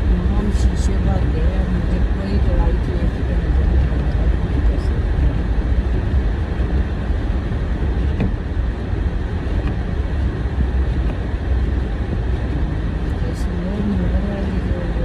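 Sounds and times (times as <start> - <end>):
car engine and tyres on snow: 0.0 - 15.0.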